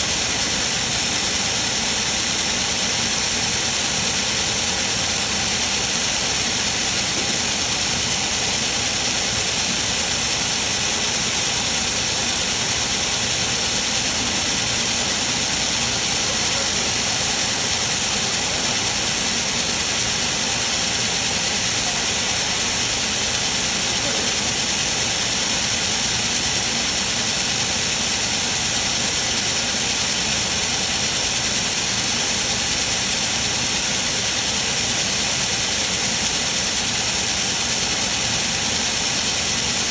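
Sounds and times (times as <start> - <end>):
laser welding machine hiss: 0.0 - 39.9.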